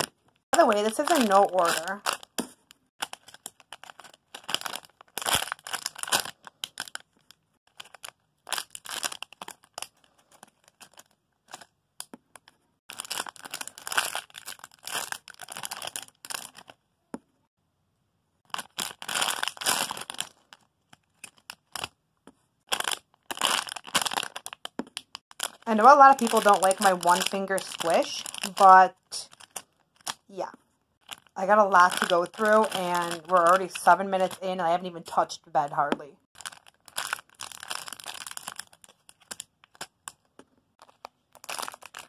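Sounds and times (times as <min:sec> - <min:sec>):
foam toys crinkling and rustling: 0:00.0 - 0:16.8, 0:18.4 - 0:34.6, 0:36.3 - 0:42.0.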